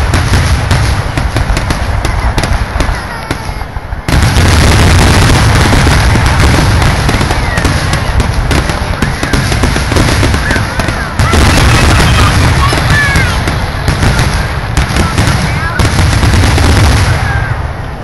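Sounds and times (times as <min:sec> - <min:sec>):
deep rumble: 0:00.0 - 0:18.0
fireworks bangs and crackles: 0:00.0 - 0:18.0.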